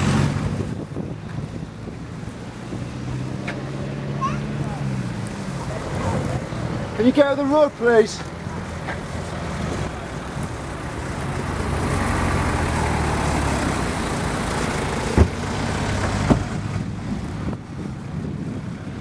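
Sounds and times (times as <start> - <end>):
lorry diesel engine rumbling: 0.0 - 19.0.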